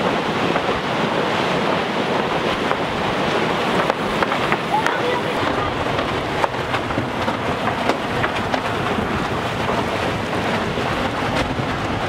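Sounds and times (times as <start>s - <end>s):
water rushing along a hull: 0.0s - 12.0s
wind buffeting the microphone: 0.0s - 12.0s.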